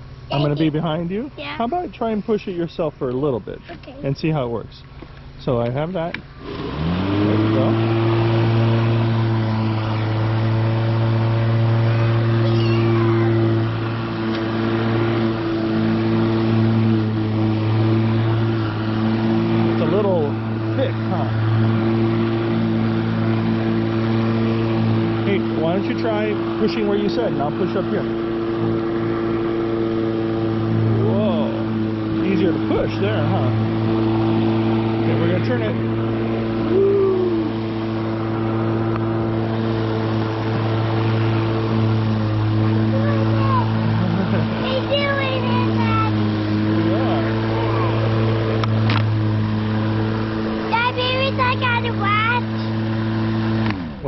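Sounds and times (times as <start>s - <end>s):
electric lawn mower humming: 0.0s - 54.0s.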